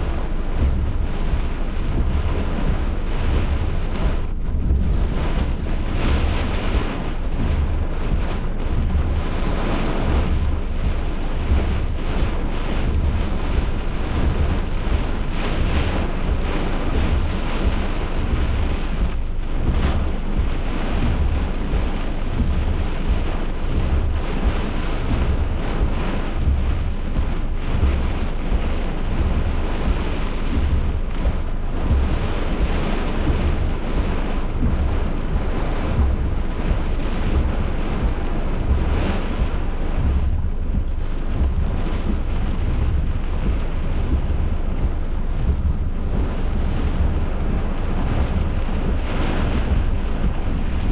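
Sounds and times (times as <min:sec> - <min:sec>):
heavy rain: 0:00.0 - 0:50.9
wind gusts buffeting microphone: 0:00.0 - 0:50.9.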